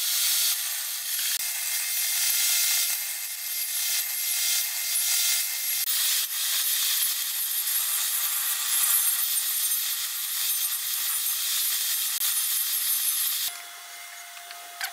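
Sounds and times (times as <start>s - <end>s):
saw grinding wood: 0.0s - 14.9s
table saw whine: 0.0s - 14.9s.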